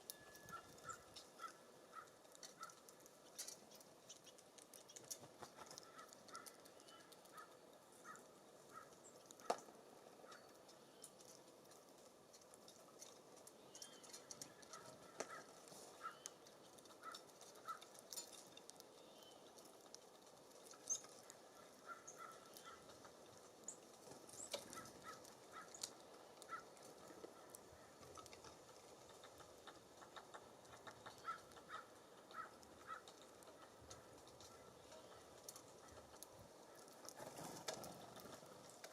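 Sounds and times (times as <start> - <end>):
faint bird calls and chips: 0.0 - 38.9.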